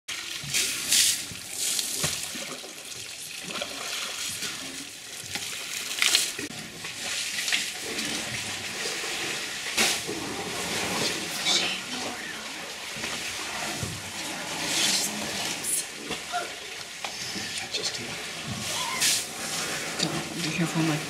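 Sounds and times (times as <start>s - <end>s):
steady water trickle: 0.1s - 21.0s
water splashing and gushing: 0.1s - 21.0s.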